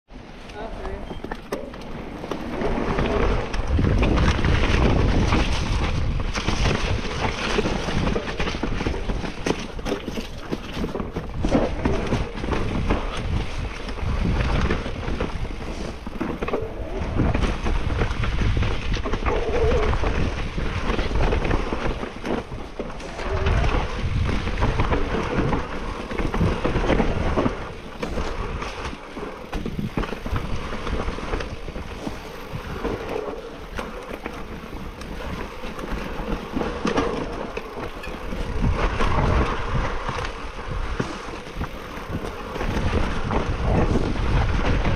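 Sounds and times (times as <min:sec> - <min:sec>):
wind buffeting microphone: 0:00.1 - 0:44.9.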